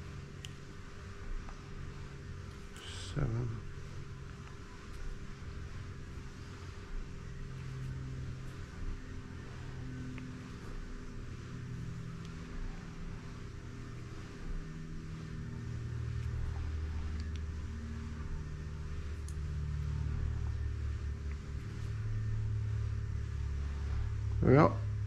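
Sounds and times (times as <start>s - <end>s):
faint constant tone: 0.0s - 25.0s
low mechanical hum: 0.0s - 25.0s.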